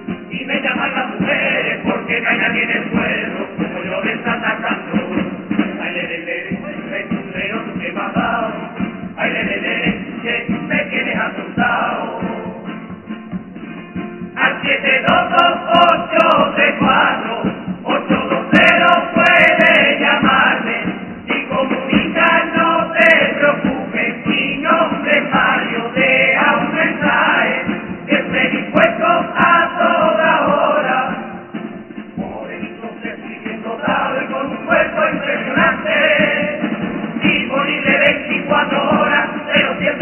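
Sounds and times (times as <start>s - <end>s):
men singing in chorus: 0.3s - 12.8s, 14.4s - 40.0s.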